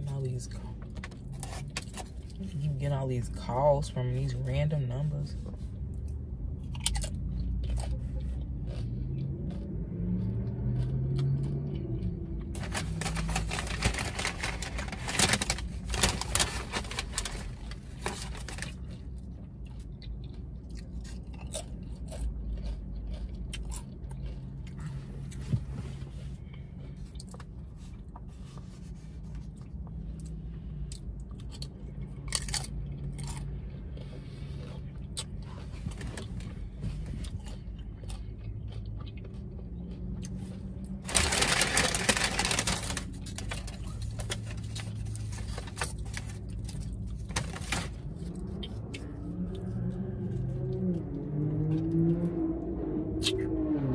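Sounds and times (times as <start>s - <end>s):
crisp crunching of chips: 5.3s - 25.5s, 26.2s - 52.2s
close-up chewing: 5.3s - 52.3s.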